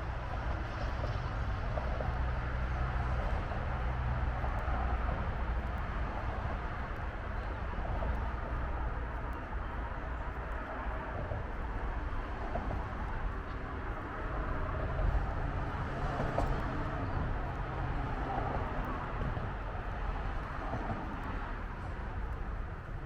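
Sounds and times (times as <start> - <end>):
low rumble of distant traffic: 0.0 - 23.0.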